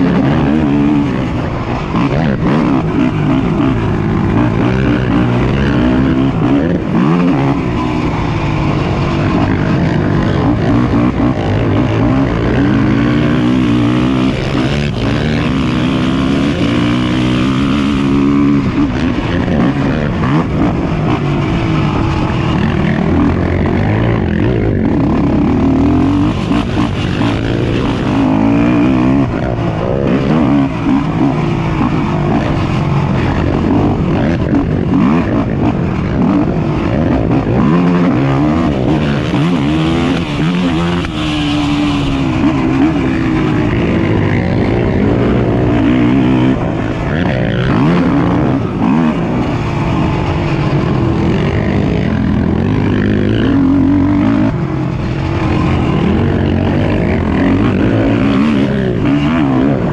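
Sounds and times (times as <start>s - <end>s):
quad bike engines revving: 0.0s - 59.9s.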